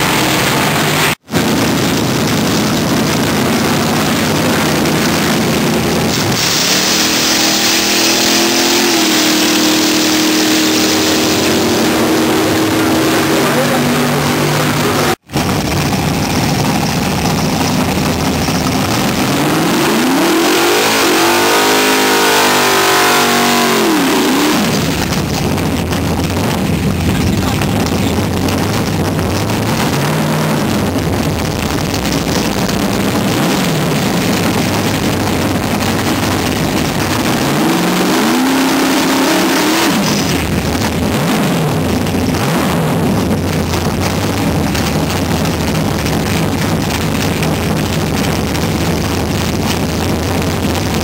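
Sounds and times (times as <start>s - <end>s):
car engine revving: 0.0s - 51.0s
tyres spinning in a burnout: 0.0s - 51.0s.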